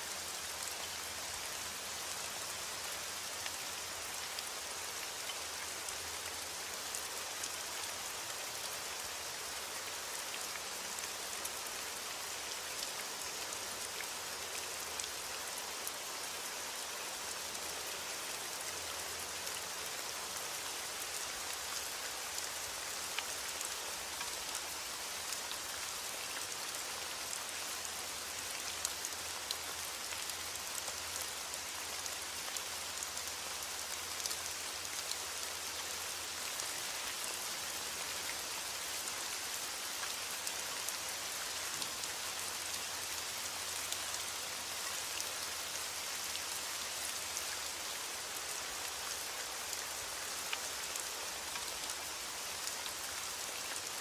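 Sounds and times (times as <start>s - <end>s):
sharp ticks of rain: 0.0s - 54.0s.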